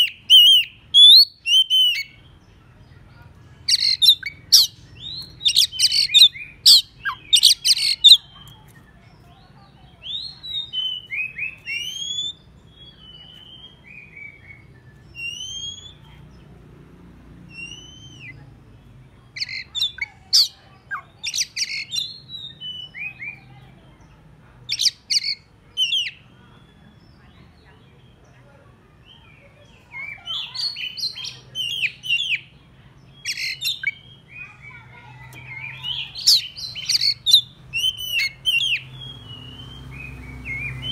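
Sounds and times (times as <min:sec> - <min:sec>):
bird singing harsh scratchy phrases: 0:00.0 - 0:16.8, 0:17.4 - 0:28.4, 0:29.0 - 0:40.9.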